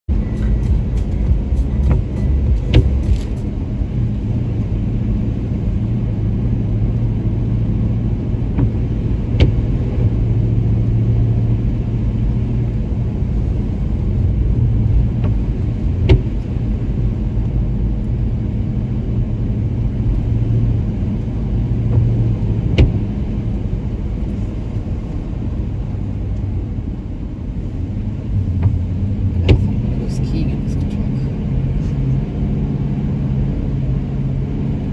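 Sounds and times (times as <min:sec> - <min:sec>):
engine and tyres rumbling: 0:00.0 - 0:34.9.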